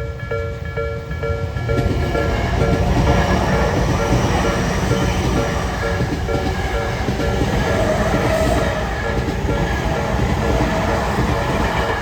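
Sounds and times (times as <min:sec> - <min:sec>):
crossing warning bell: 0:00.0 - 0:12.0
train wheels clattering on rails: 0:00.0 - 0:12.0.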